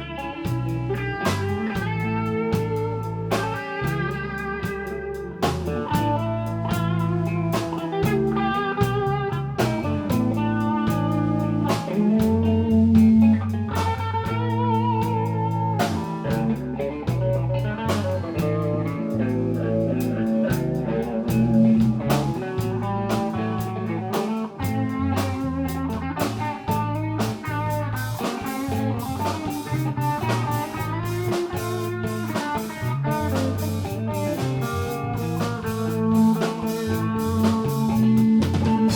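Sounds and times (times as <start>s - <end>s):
bass notes: 0.0s - 38.9s
drum kit: 0.0s - 38.9s
electric guitar lead with vibrato: 0.0s - 38.9s.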